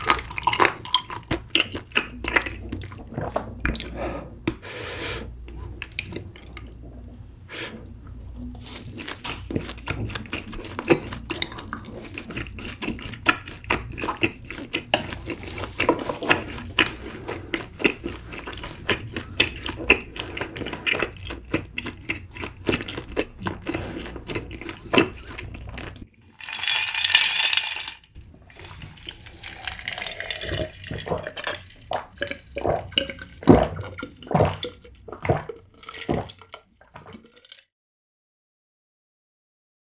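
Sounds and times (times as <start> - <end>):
wet chewing of food: 0.0 - 4.6, 7.8 - 26.7, 28.4 - 37.7.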